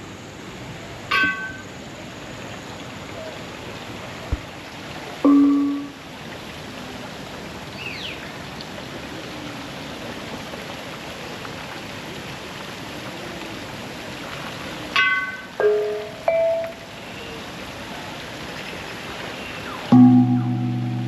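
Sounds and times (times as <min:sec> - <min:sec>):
waterfall rushing: 0:03.6 - 0:21.0.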